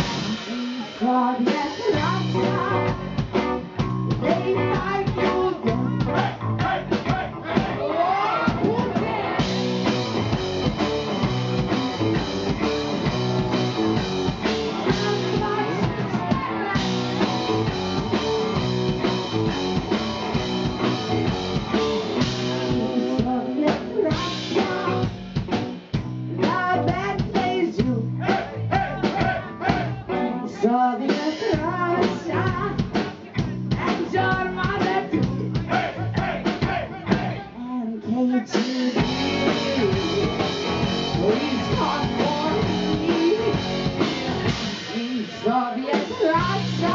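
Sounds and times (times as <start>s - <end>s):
person singing: 0.0s - 3.1s, 4.2s - 9.6s, 13.6s - 18.4s, 21.2s - 25.1s, 26.4s - 46.9s
drum kit: 0.0s - 30.3s, 31.0s - 37.4s, 38.5s - 46.9s
bass guitar: 0.0s - 46.9s
electric guitar: 1.8s - 35.7s, 38.7s - 46.9s.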